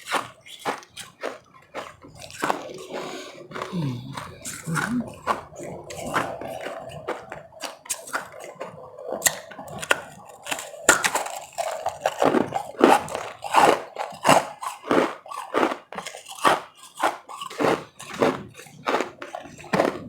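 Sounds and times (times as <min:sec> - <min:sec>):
ice crunching and chewing: 0:00.0 - 0:20.0.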